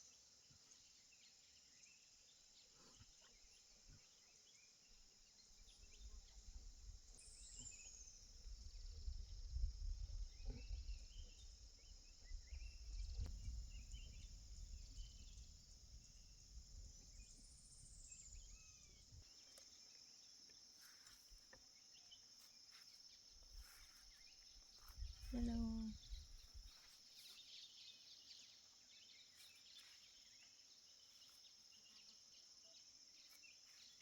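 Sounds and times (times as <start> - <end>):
insects droning: 0.7 - 34.0.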